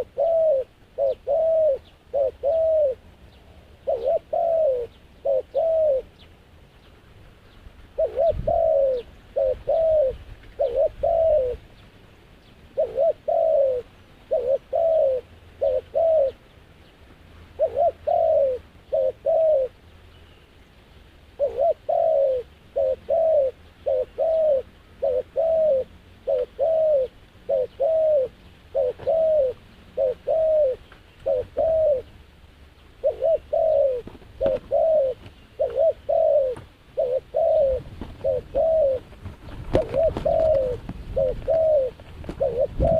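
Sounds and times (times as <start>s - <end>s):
dove cooing: 0.0s - 6.2s, 7.9s - 11.8s, 12.7s - 16.5s, 17.5s - 19.8s, 21.4s - 32.2s, 33.0s - 42.9s.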